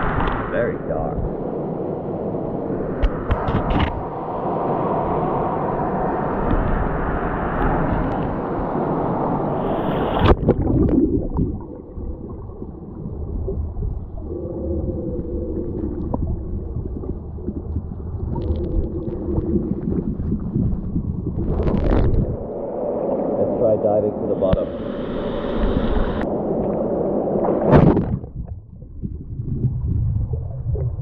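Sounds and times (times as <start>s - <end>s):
muffled underwater rumble: 0.0s - 31.0s.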